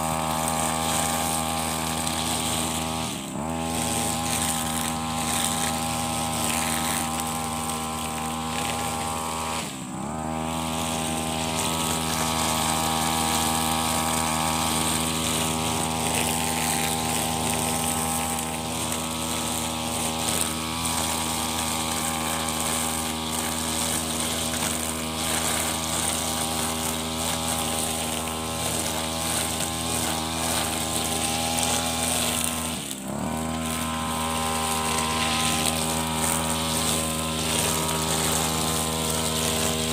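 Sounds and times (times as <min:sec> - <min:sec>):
brush cutter engine running: 0:00.0 - 0:39.9
trimmer line cutting grass: 0:00.0 - 0:39.9.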